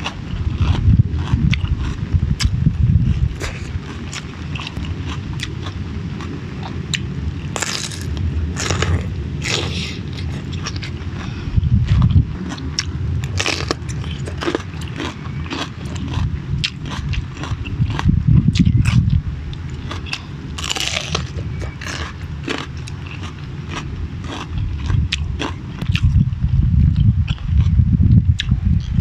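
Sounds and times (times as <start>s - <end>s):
chewing and crunching: 0.0s - 29.0s
low rumble: 0.0s - 29.0s.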